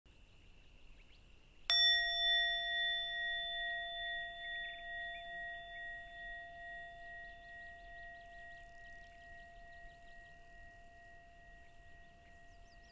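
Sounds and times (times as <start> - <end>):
bowl bell ringing: 1.7 - 12.9.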